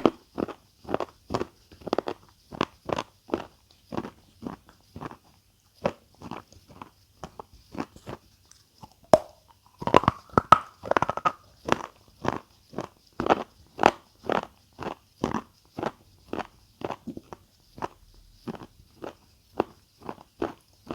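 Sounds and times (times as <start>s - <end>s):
chewing crunchy food: 0.0s - 20.9s.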